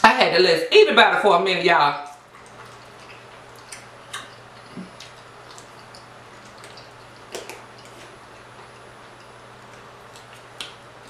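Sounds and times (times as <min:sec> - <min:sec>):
steady low hum: 0:00.0 - 0:11.0
chewing with wet smacks: 0:02.1 - 0:11.0.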